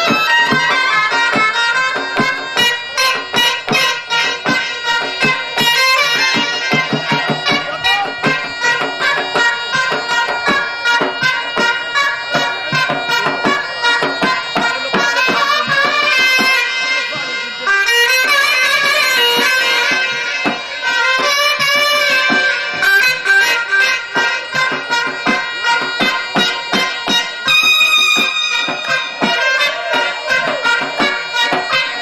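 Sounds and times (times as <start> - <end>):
drum beats: 0.0 - 32.0
reedy shawm melody: 0.0 - 32.0.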